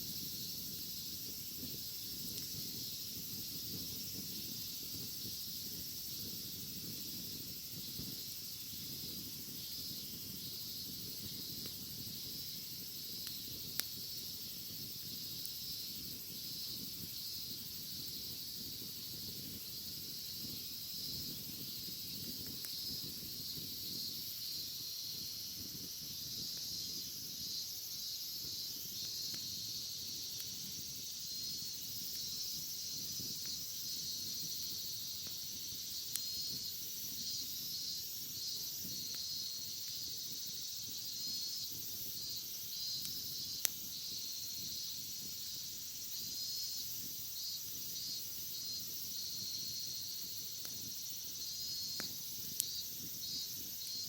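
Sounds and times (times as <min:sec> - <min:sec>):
bonfire crackling: 0:00.0 - 0:54.0
cicadas droning: 0:00.0 - 0:54.0.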